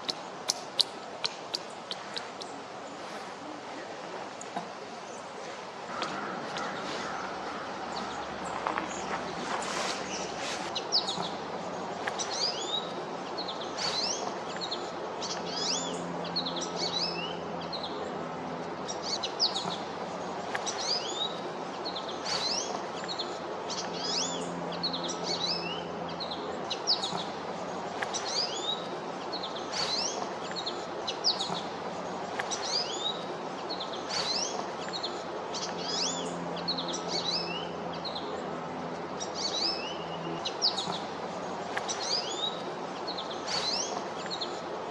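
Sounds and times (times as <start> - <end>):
small birds chirping: 0.0 - 3.6, 4.3 - 44.9
steady background hiss: 0.0 - 44.9.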